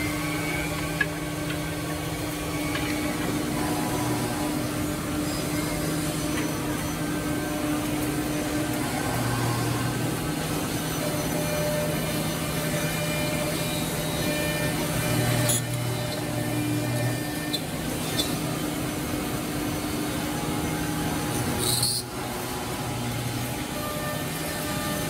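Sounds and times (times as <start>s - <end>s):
mortising machine whine and hum: 0.0s - 25.0s.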